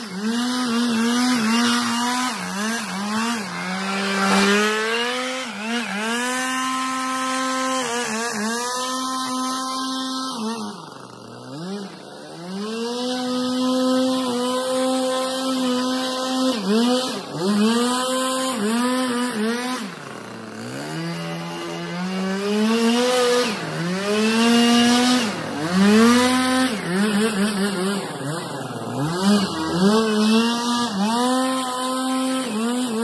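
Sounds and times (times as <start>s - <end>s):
leaf blower engine revving: 0.0s - 33.0s.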